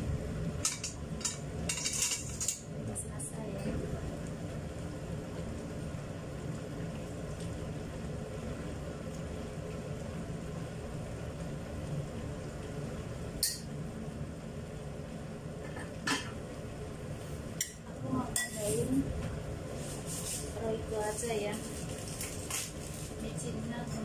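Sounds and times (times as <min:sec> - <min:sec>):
stew simmering in a wok: 0:00.0 - 0:24.0.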